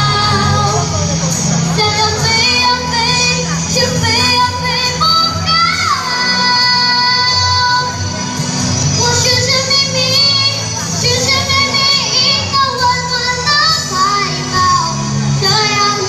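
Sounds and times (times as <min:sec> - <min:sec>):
backing track: 0:00.0 - 0:16.0
person singing pop song: 0:00.0 - 0:16.0.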